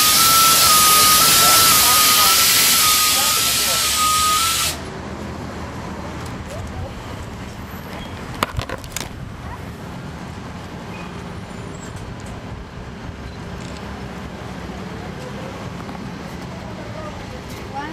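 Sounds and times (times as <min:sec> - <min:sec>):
bus diesel engine running: 0:00.0 - 0:08.4, 0:09.1 - 0:17.9.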